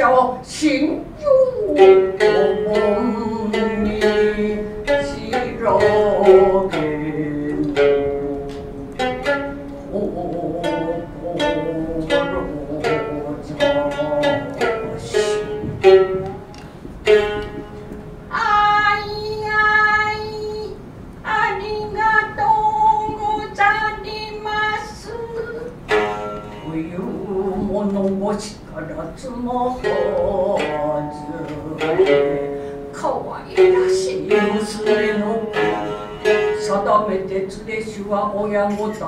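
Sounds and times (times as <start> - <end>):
high held singing voice: 0.0 - 16.5, 18.3 - 39.0
shamisen plucked notes: 1.6 - 20.7, 21.9 - 28.6, 29.2 - 39.0.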